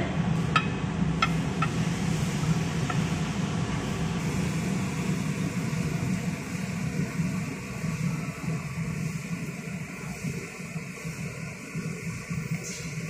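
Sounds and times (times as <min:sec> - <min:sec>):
mechanical hum and rumble: 0:00.0 - 0:13.0.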